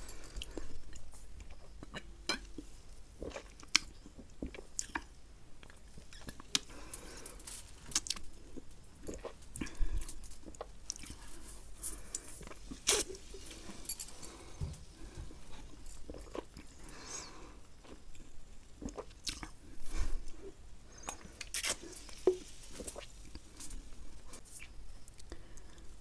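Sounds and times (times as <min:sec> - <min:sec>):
chewing noises: 0:00.1 - 0:17.2, 0:17.8 - 0:25.8.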